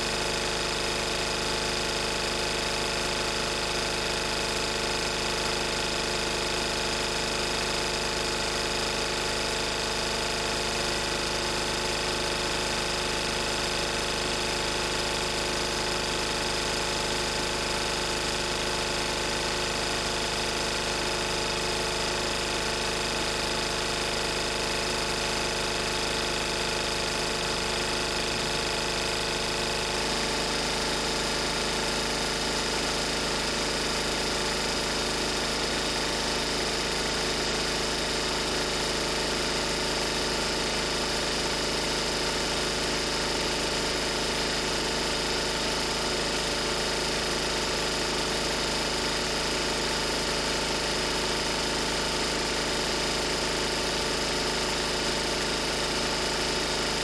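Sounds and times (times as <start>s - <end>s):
diesel generator running: 0.0s - 57.0s.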